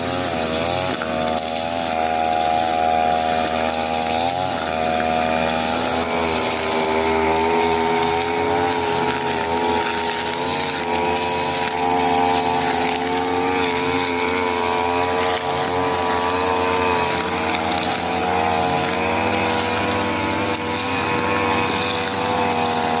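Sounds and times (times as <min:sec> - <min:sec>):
brush cutter engine high revs: 0:00.0 - 0:23.0.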